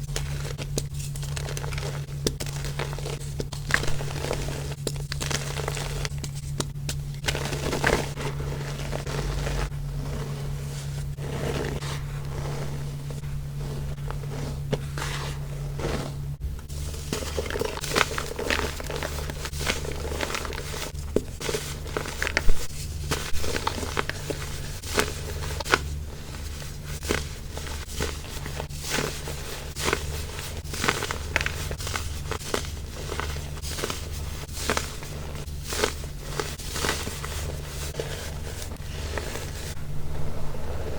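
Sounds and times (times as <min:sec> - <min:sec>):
baking soda crunching: 0:00.0 - 0:40.9
faint low hum: 0:00.0 - 0:40.9.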